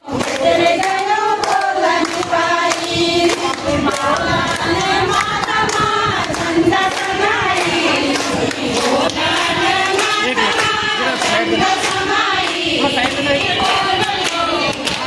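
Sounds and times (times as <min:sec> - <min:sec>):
crowd of women talking loudly: 0:00.0 - 0:15.0
hands clapping: 0:00.0 - 0:15.0.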